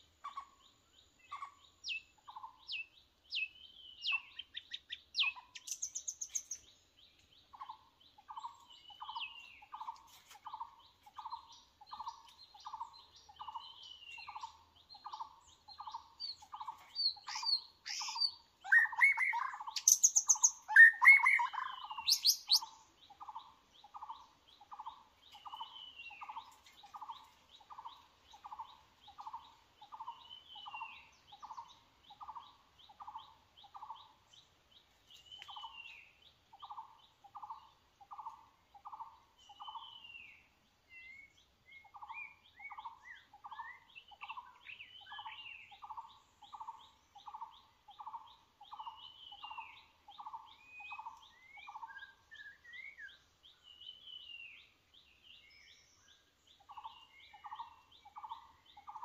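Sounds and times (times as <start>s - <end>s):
birds whistling and trilling: 0.2s - 6.8s, 7.5s - 34.2s, 35.1s - 54.7s, 55.3s - 59.0s.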